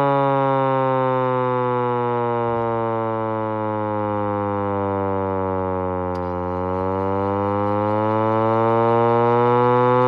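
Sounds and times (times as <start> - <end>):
hand-crank siren wailing: 0.0 - 10.0.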